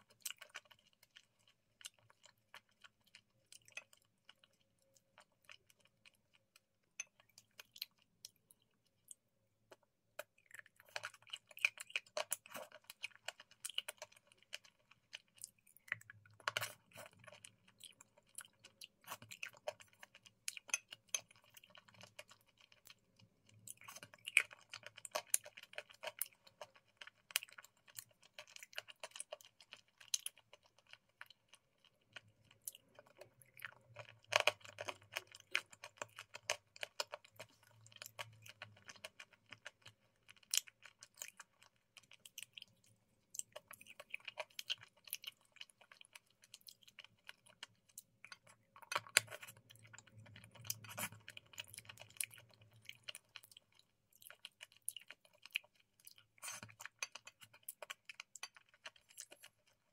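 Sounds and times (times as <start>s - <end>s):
wet chewing clicks: 0.0s - 59.9s.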